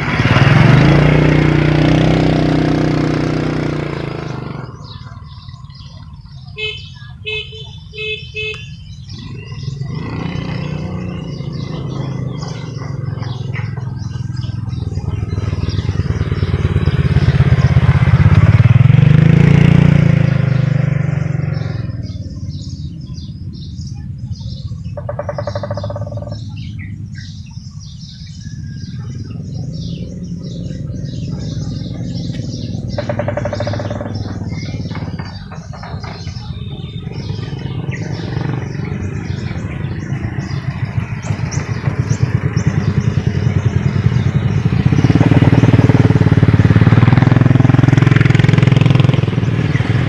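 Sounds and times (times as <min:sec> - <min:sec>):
vehicle engine passing: 0:00.0 - 0:07.4, 0:08.4 - 0:50.0
birds chirping: 0:00.0 - 0:50.0.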